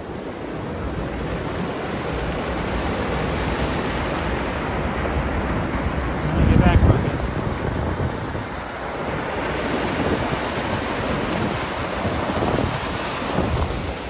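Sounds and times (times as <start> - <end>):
stream water rushing over barrier: 0.0 - 14.0.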